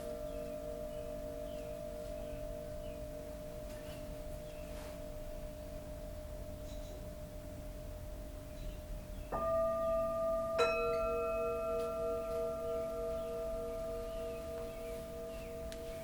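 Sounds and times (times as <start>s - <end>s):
low sustained tone: 0.0s - 16.0s
singing bowls ringing: 0.0s - 16.0s.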